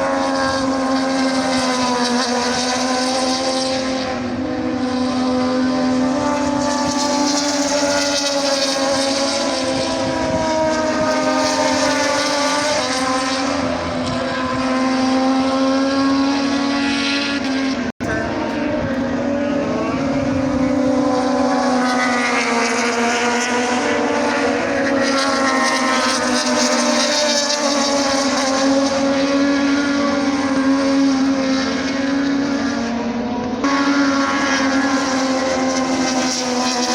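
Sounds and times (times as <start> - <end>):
engine running at high speed: 0.0 - 36.9.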